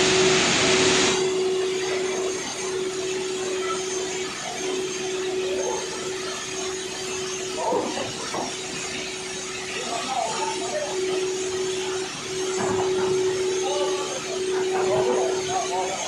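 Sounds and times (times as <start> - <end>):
machine hum with whine: 0.0 - 16.0.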